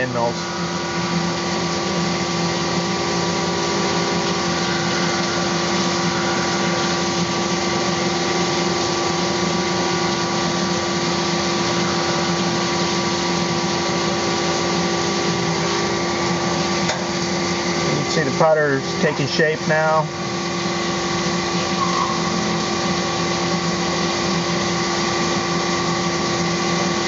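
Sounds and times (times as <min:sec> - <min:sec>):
milling machine cutting metal: 0:00.0 - 0:27.0.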